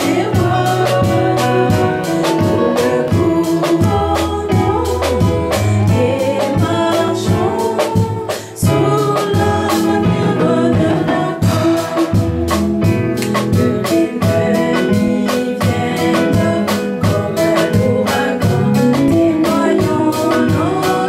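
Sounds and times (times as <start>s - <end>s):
drum kit beat: 0.0s - 21.0s
live church band: 0.0s - 21.0s
woman singing a hymn: 0.0s - 21.0s.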